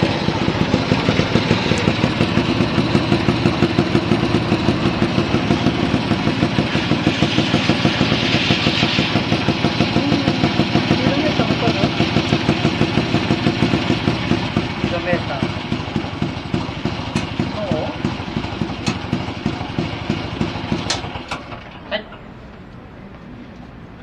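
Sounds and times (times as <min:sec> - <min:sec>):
scooter engine idling: 0:00.0 - 0:22.9.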